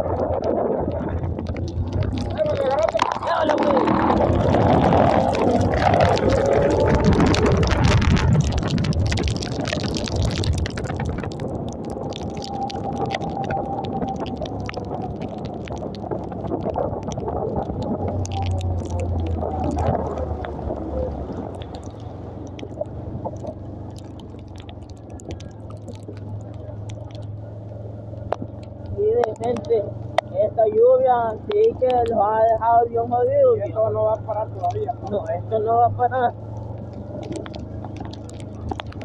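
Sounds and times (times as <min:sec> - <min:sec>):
heavy rain: 0:00.0 - 0:39.0
raindrops ticking on microphone: 0:00.0 - 0:39.0
wind noise: 0:00.0 - 0:39.0.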